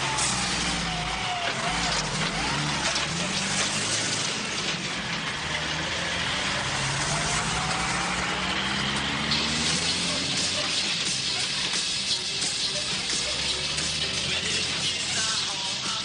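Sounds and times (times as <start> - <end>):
road and wind noise: 0.0 - 15.6
diesel truck engine: 0.0 - 16.0.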